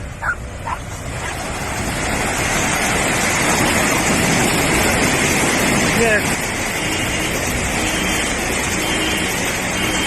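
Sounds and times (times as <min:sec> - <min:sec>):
surf rushing: 0:00.0 - 0:10.0
wind: 0:00.0 - 0:10.0.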